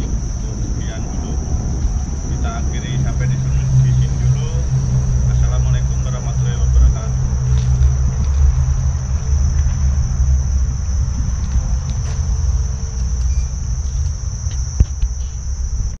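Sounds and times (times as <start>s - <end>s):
insects chirring: 0.0s - 16.0s
low rumble: 0.0s - 16.0s.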